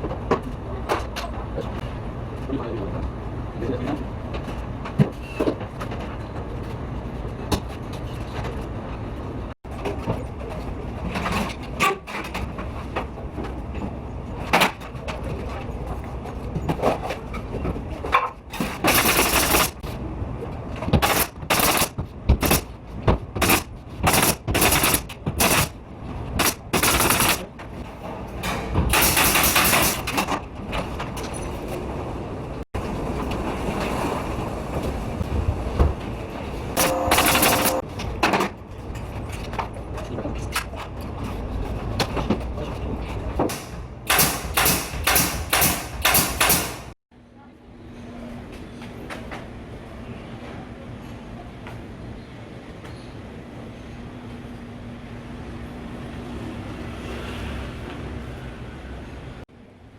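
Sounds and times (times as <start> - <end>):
construction background din: 0.0 - 56.5.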